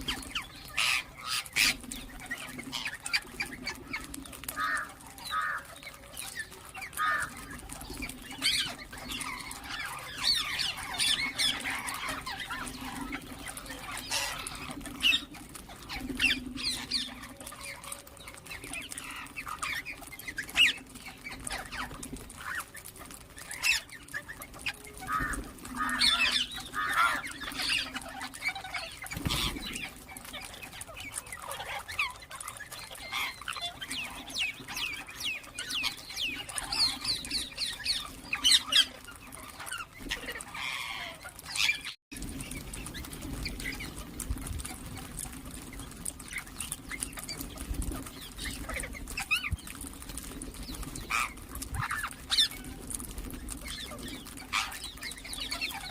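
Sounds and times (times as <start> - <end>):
parrots chirping and squawking: 0.0 - 55.9.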